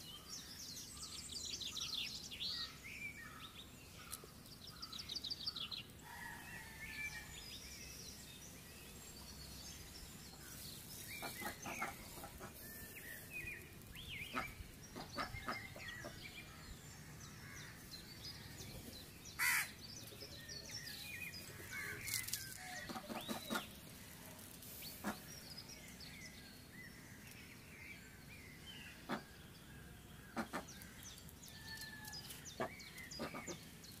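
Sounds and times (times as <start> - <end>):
bird chirps and calls: 0.0 - 34.0
faint outdoor background noise: 0.0 - 34.0.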